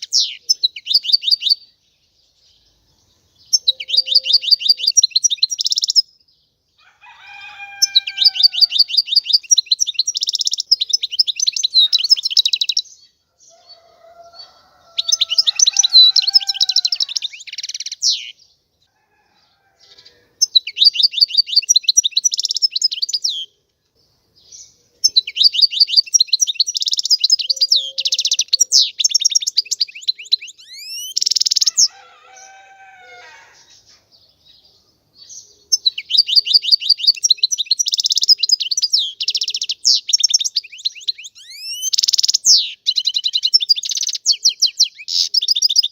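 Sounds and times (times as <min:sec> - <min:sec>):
bird twittering trills: 0:00.0 - 0:06.2, 0:07.2 - 0:18.4, 0:19.8 - 0:45.9.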